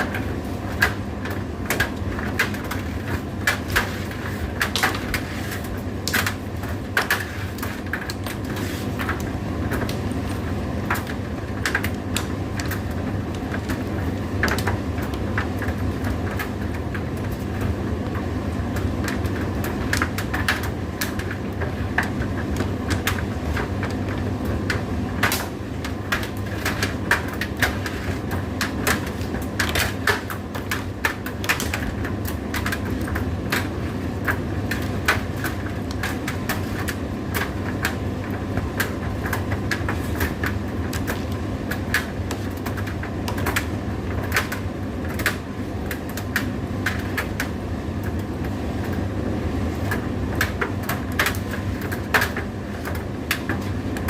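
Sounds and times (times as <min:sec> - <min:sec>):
tumble dryer humming: 0:00.0 - 0:54.0.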